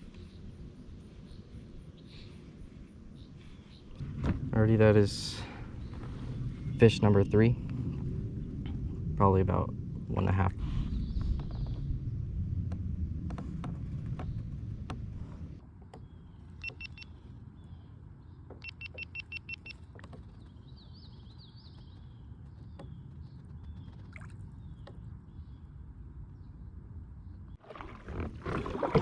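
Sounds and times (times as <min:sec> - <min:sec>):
wind: 0:00.0 - 0:29.0.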